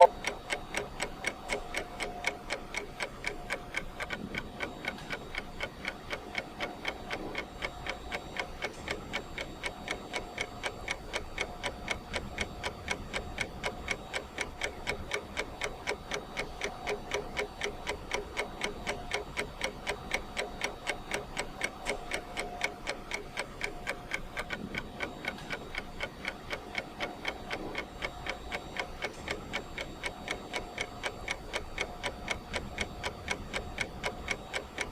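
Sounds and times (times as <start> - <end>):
clock ticking: 0.0 - 34.9.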